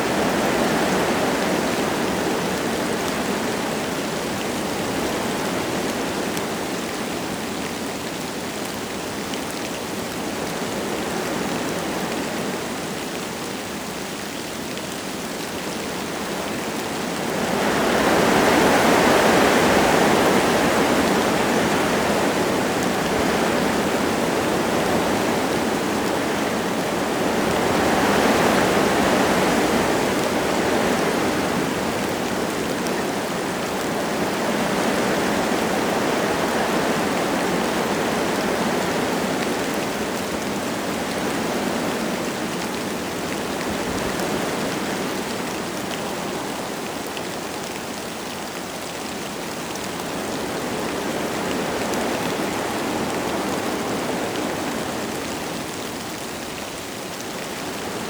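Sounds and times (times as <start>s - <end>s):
light rain falling: 0.0s - 58.0s
wind gusts through trees: 0.0s - 58.0s.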